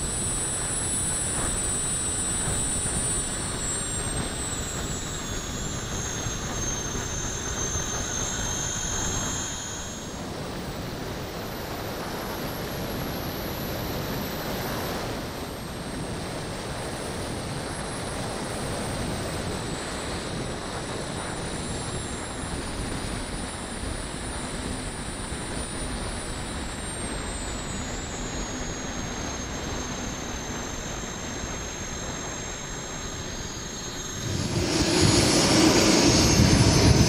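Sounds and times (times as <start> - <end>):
high turbine whine: 0.0 - 37.0
jet engine rush: 0.0 - 37.0.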